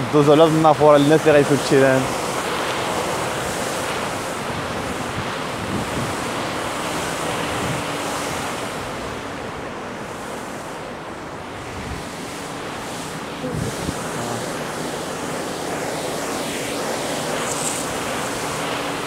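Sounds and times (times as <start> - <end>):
fountain water splashing: 0.0 - 11.1, 11.8 - 19.0.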